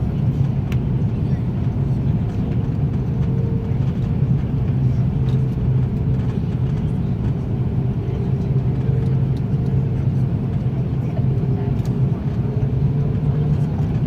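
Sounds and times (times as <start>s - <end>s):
airliner engine rumble: 0.0s - 14.0s.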